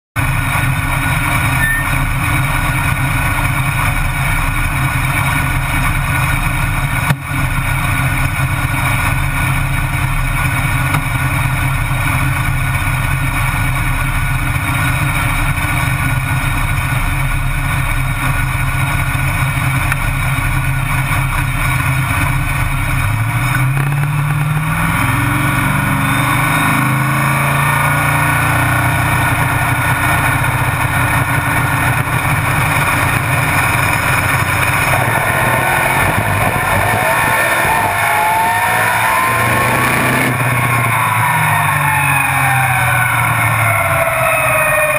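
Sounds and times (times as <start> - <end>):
race car engine idling: 0.2 - 26.5, 27.4 - 44.9.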